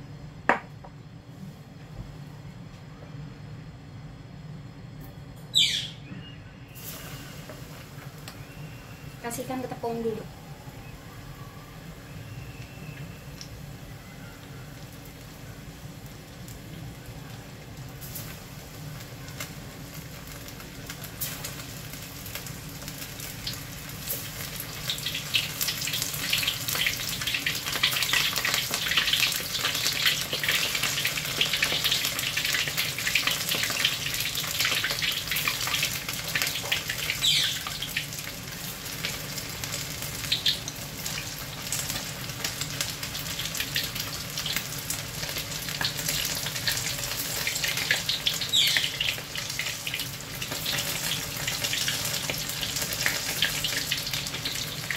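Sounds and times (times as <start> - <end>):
meat deep-frying in hot oil: 6.7 - 54.9.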